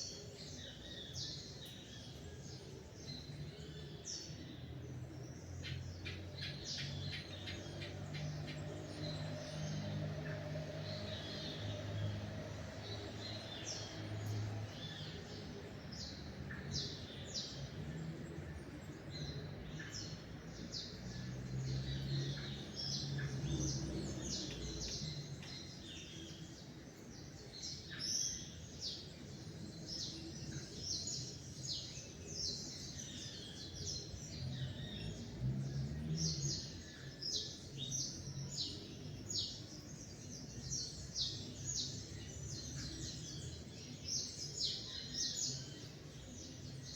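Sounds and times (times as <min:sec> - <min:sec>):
songbirds chirping and singing: 0:00.0 - 0:46.9.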